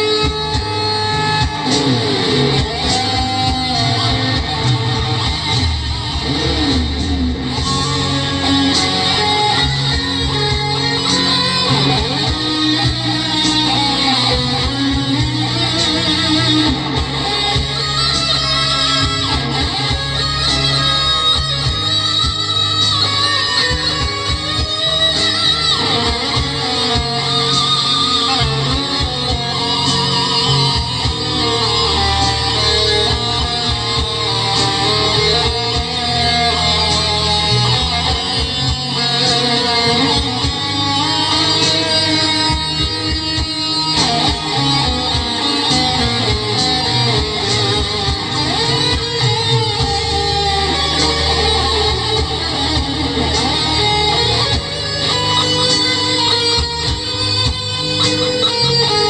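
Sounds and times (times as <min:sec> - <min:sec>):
backing track with bass: 0:00.0 - 0:59.0
lead guitar lick: 0:00.0 - 0:59.0.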